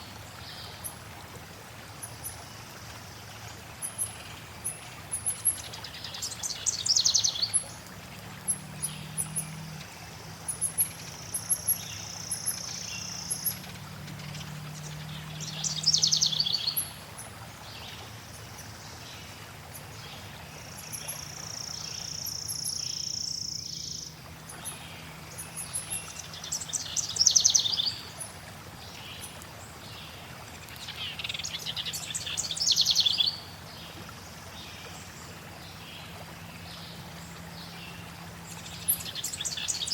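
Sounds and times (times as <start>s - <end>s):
faint flowing water: 0.0s - 39.9s
songbirds trilling: 3.7s - 39.9s.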